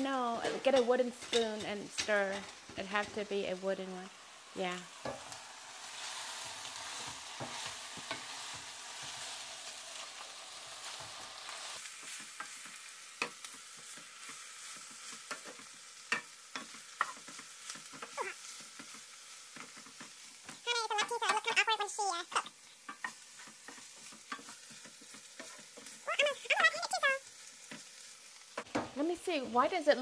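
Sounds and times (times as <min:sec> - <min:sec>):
shrimp sizzling in oil: 0:00.0 - 0:30.0.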